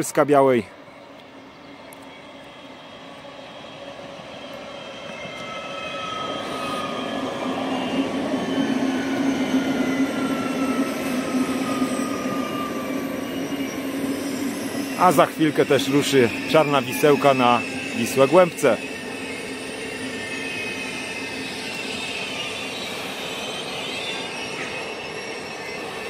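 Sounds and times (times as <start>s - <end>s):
electric train low hum: 0.0s - 26.0s
falling whines of braking train: 0.0s - 26.0s.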